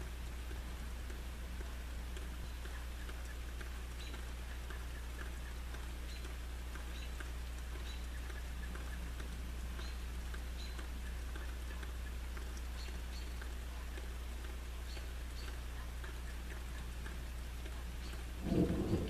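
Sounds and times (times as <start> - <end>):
low hum: 0.0 - 19.0
raindrops pattering: 0.0 - 19.0.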